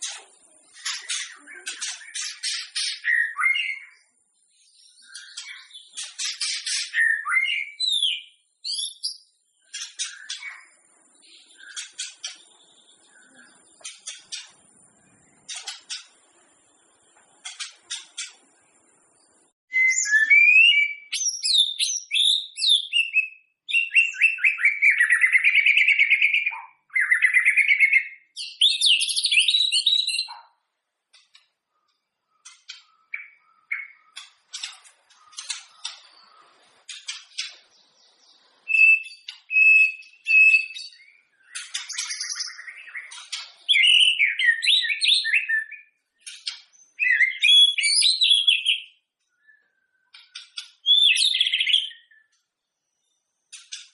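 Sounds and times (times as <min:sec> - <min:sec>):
bird singing fluty whistles and trills: 0:00.0 - 0:30.5, 0:31.3 - 0:36.7, 0:37.4 - 0:53.9.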